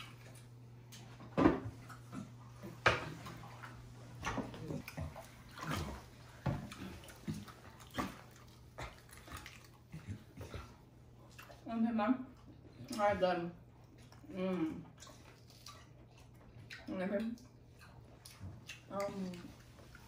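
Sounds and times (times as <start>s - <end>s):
bath water splashing: 1.7s - 20.0s.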